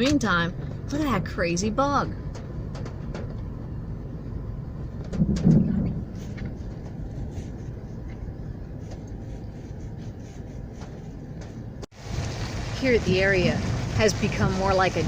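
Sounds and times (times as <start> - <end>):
road noise inside car cabin: 0.0 - 15.0.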